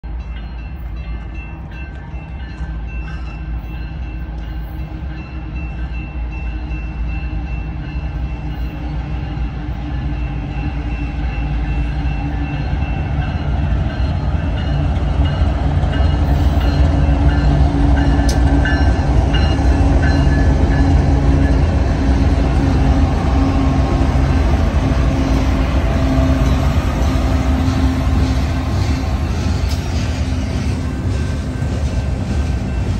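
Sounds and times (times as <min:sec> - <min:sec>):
diesel locomotive engine rumble: 0:00.0 - 0:32.9.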